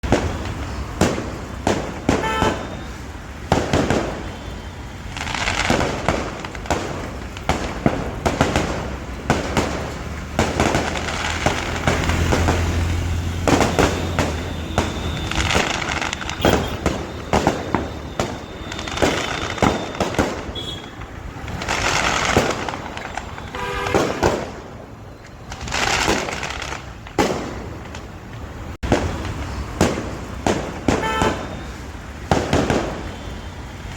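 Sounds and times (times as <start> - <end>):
firecrackers cracking and banging: 0.0 - 33.9
fireworks hissing: 0.0 - 33.9.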